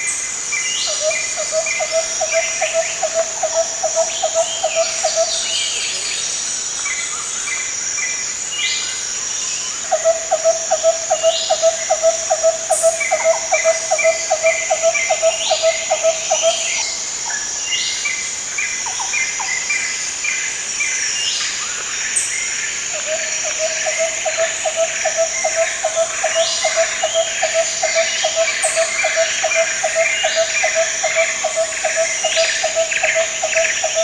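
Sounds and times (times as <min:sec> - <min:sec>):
high insect drone: 0:00.0 - 0:34.0.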